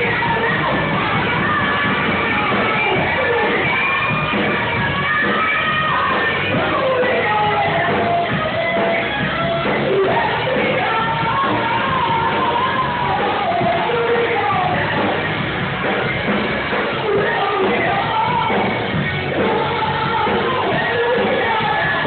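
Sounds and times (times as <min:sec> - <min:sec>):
person singing: 0:00.0 - 0:15.3, 0:16.8 - 0:22.0
electric guitar: 0:00.0 - 0:22.0
live rock band playing: 0:00.0 - 0:22.0.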